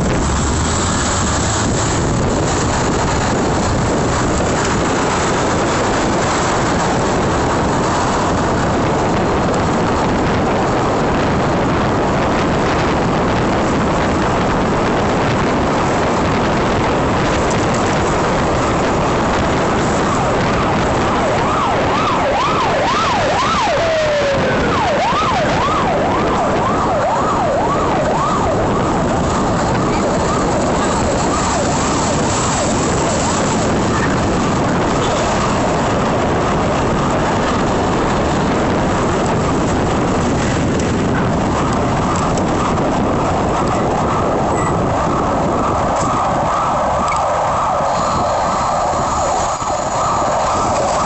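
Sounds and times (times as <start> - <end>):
traffic noise: 0.0 - 51.0
wind on the microphone: 0.0 - 51.0
emergency siren yelping: 1.6 - 51.0.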